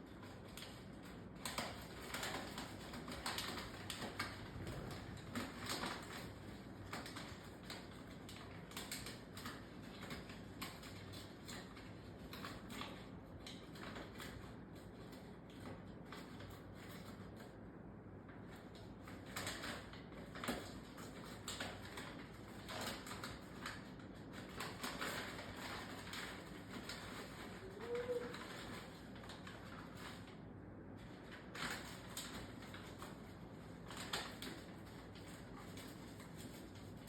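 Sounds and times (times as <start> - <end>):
paper rustling: 0.0 - 17.6, 18.3 - 30.4, 31.0 - 37.0
bird pecking at paper: 0.0 - 37.0.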